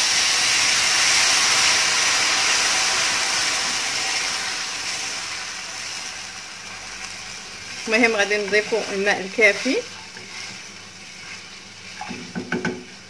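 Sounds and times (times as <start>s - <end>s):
water sizzling in hot oil: 0.0s - 13.0s.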